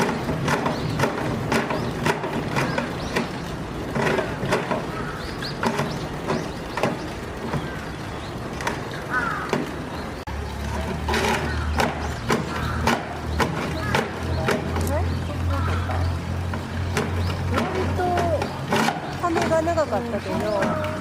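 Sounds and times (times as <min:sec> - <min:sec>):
sharp knocks and clicks: 0:00.0 - 0:21.0.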